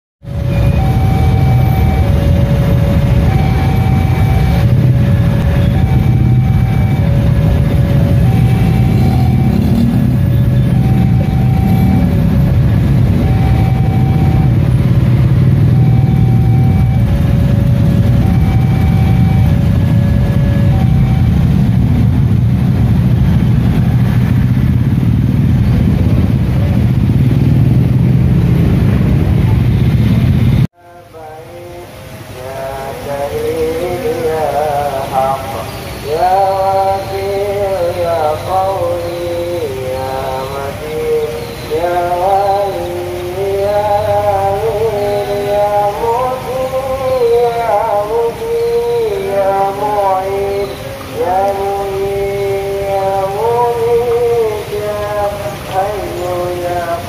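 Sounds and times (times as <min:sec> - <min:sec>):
two-tone crossing warning bell: 0:00.2 - 0:27.7, 0:28.3 - 0:57.0
idling road traffic: 0:00.2 - 0:57.0
passing train rumble: 0:00.2 - 0:57.0.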